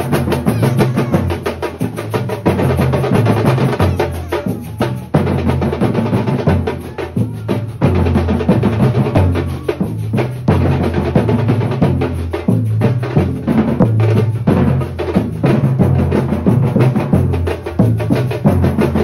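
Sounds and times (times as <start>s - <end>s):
marching drums booming: 0.0s - 19.0s.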